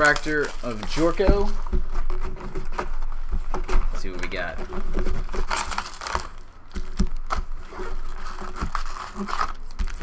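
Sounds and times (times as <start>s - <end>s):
wrapper and cardboard rustling: 0.0s - 10.0s.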